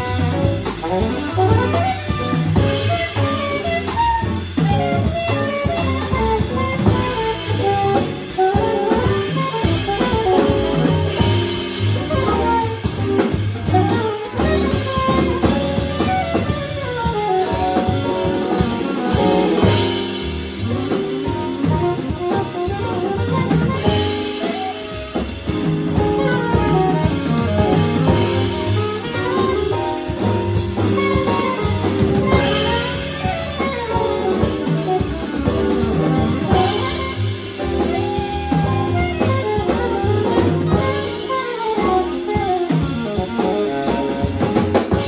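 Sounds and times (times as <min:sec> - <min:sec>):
jazz quartet playing: 0:00.0 - 0:45.0
saxophone melody: 0:00.0 - 0:45.0.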